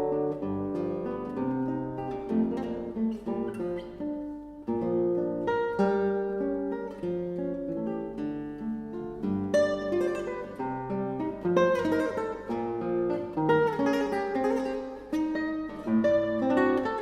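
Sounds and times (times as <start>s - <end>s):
classical guitar melody: 0.0s - 17.0s.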